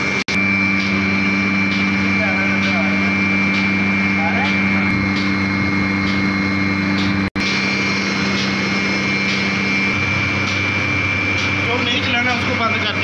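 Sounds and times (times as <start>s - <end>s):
vacuum pump humming and whining: 0.0s - 13.0s.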